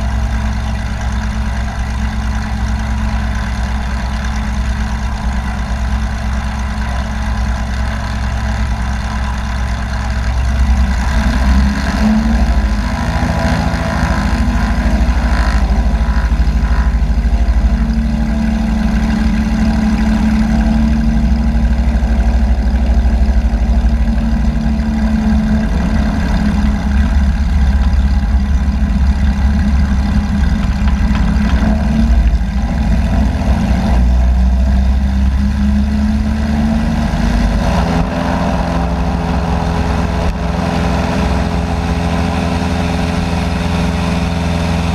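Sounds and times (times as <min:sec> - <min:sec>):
propeller aircraft engine droning: 0:00.0 - 0:44.9.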